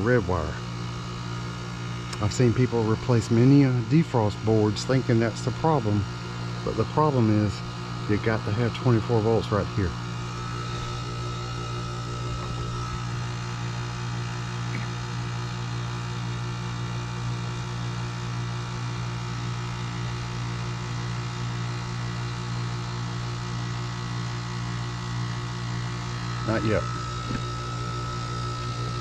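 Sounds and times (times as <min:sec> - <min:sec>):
heat pump compressor humming: 0:00.0 - 0:29.0.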